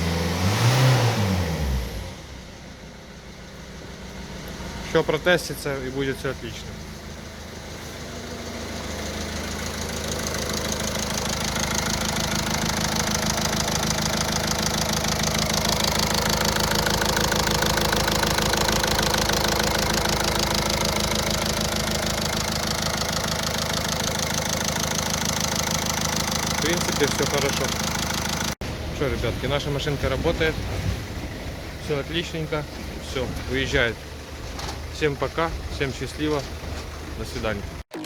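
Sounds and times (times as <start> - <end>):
diesel engine clattering: 0.0 - 38.0.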